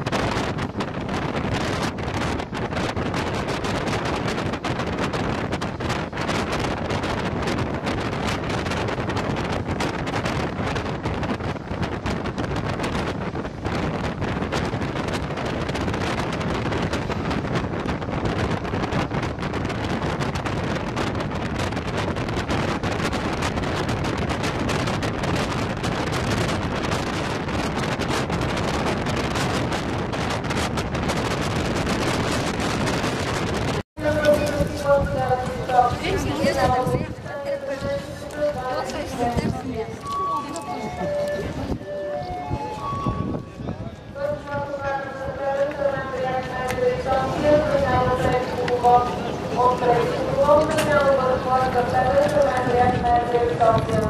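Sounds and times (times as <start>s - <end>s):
train running at speed: 0.0s - 54.0s
wind buffeting microphone: 0.0s - 54.0s.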